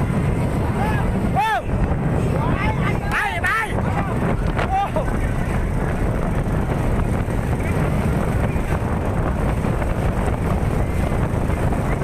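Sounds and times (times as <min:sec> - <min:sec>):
steady outdoor din: 0:00.0 - 0:12.0
wind rumbling on microphone: 0:00.0 - 0:12.0.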